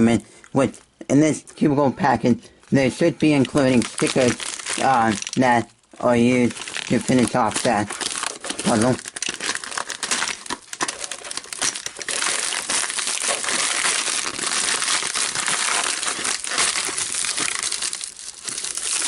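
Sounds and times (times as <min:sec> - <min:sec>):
packaging crinkling and rustling: 0:03.0 - 0:19.0.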